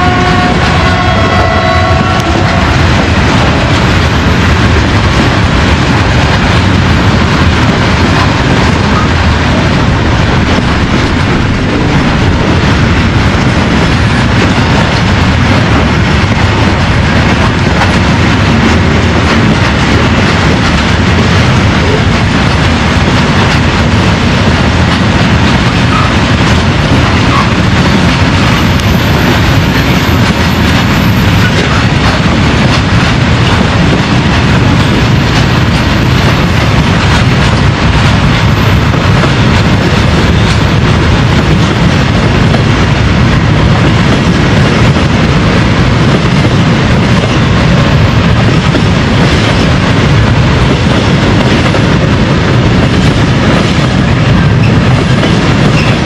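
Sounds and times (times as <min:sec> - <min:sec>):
freight train wheels on track: 0:00.0 - 0:56.0.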